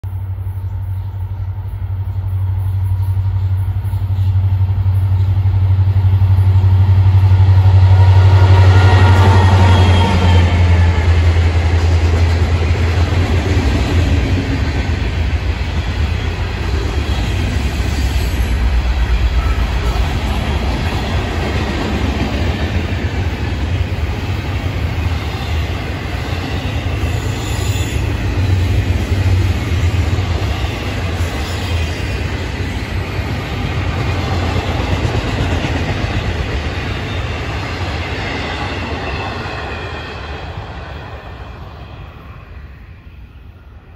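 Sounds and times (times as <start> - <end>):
freight train rolling on rails: 0.0 - 43.9.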